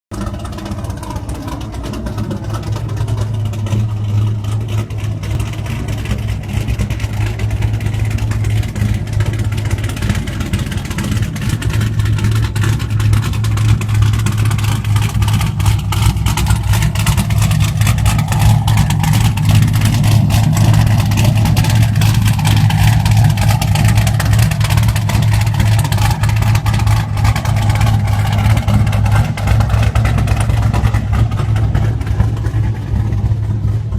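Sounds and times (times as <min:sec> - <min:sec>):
car engine rough idle: 0:00.1 - 0:33.9.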